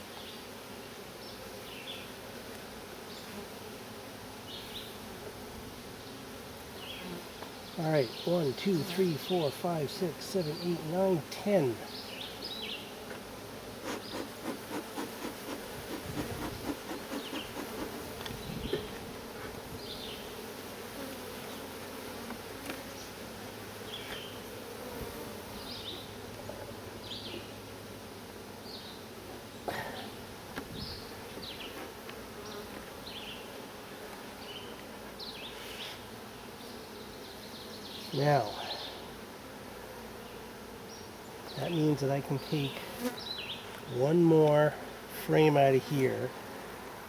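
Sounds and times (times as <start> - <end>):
honey bees buzzing: 0.0 - 47.0.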